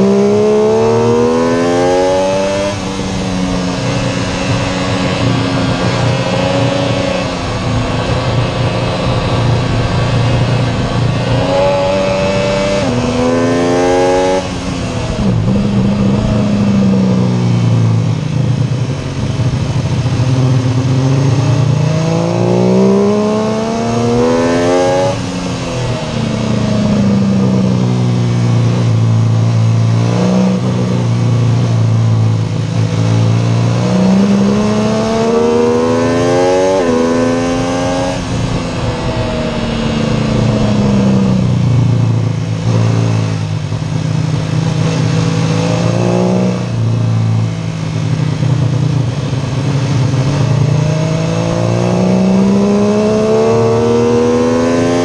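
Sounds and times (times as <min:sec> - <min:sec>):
wind rush on microphone: 0:00.0 - 0:22.3, 0:30.5 - 0:55.0
motorcycle engine revving: 0:00.0 - 0:55.0.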